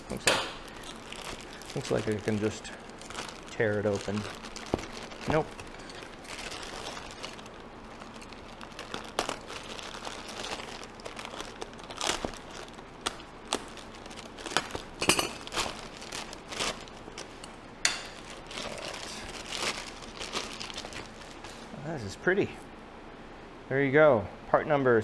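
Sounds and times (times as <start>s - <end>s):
plastic bag crinkling: 0.0s - 21.8s.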